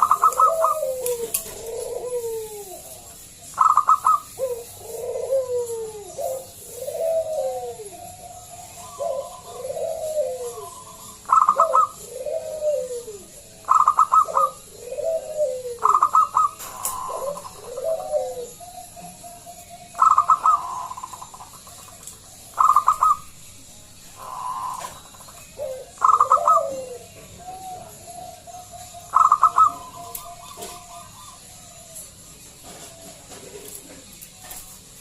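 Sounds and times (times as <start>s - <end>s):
dove cooing: 0.0s - 34.7s.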